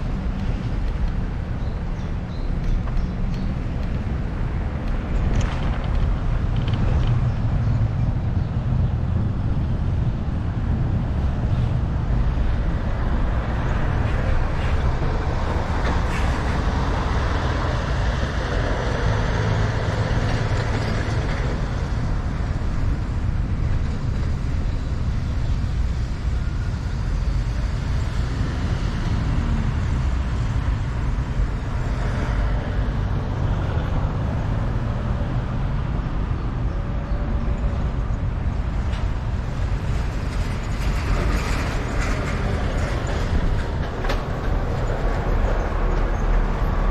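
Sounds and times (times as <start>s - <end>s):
bicycle road noise: 0.0s - 46.9s
wind buffeting microphone: 0.0s - 46.9s.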